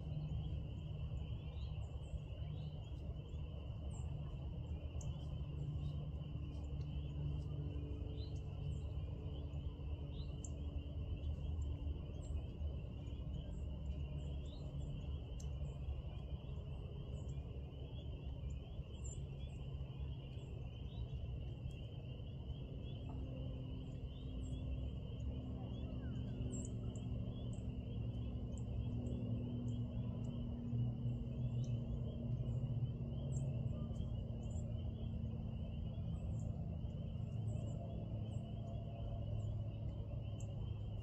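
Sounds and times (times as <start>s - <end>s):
continuous low rumble: 0.0s - 41.0s.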